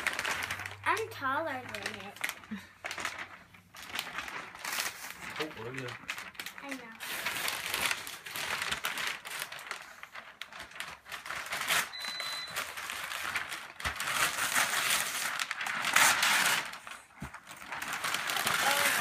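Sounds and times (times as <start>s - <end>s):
wrapping paper tearing and crumpling: 0.0s - 19.0s.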